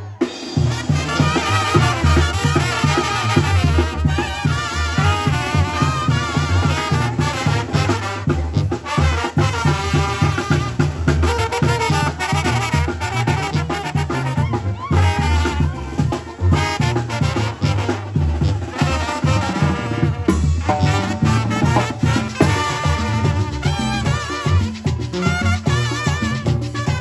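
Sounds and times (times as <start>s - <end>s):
bass and drums: 0.0s - 27.0s
brass band playing: 0.0s - 27.0s.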